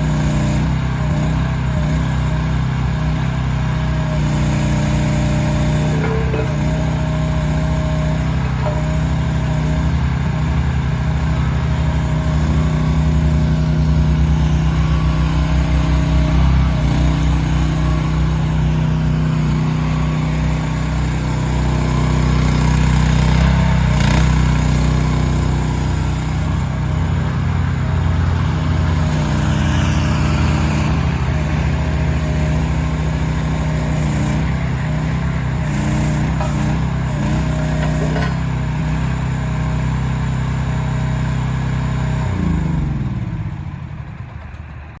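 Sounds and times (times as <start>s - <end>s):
mini excavator engine running: 0.0s - 45.0s.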